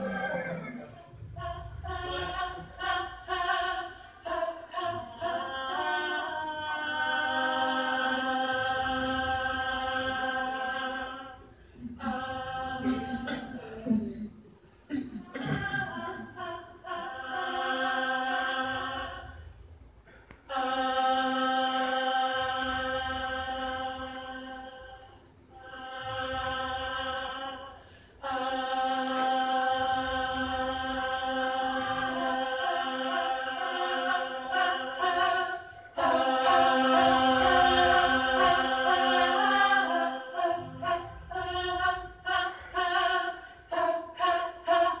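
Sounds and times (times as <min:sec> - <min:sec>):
choir singing: 0:00.0 - 0:19.7, 0:20.4 - 0:45.0.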